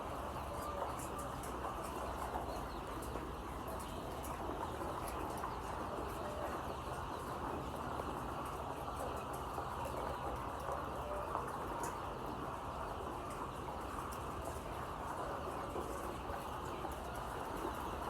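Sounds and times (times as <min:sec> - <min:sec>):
chickens clucking and peeping: 0:00.0 - 0:18.0.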